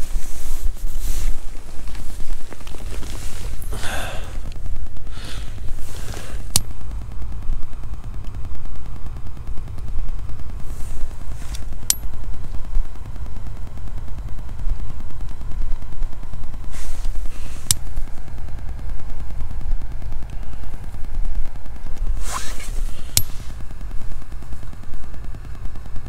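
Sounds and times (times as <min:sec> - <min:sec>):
lighter hiss and click: 0:00.0 - 0:26.0.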